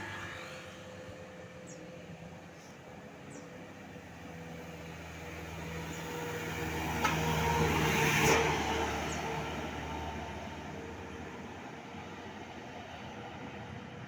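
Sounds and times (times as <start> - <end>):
bus passing by: 0.0 - 14.0.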